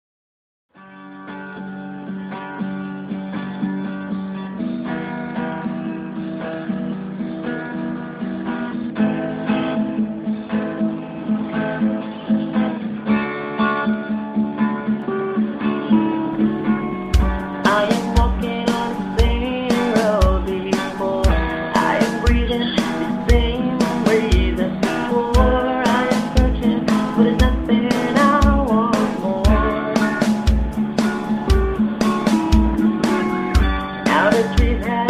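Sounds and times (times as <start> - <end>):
acoustic guitar strumming: 0.8 - 35.0.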